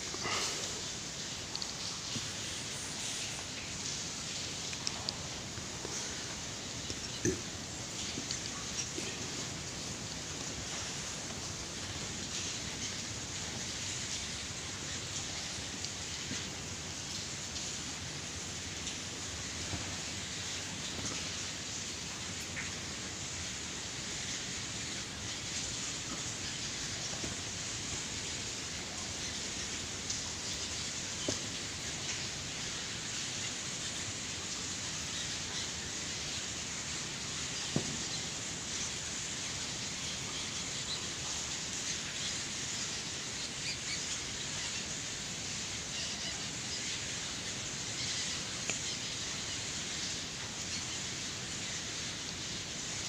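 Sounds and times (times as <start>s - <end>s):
high night ambience hiss: 0.0s - 53.0s.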